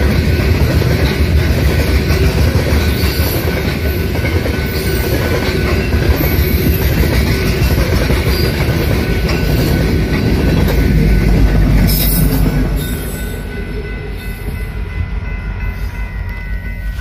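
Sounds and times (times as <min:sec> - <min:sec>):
diesel locomotive passing: 0:00.0 - 0:17.0
distant train: 0:00.0 - 0:17.0
train wheels clattering on rails: 0:00.0 - 0:17.0.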